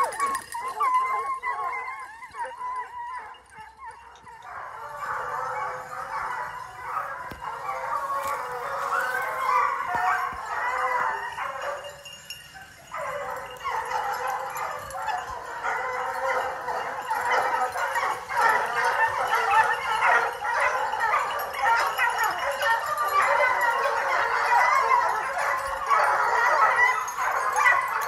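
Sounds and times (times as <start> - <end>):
hounds baying: 0.0 - 28.0.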